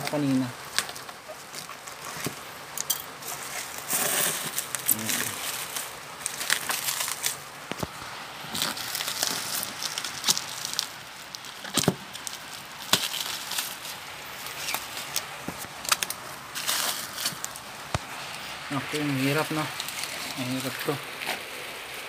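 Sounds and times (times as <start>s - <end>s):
plastic wrap and tape crinkling: 0.0s - 22.0s.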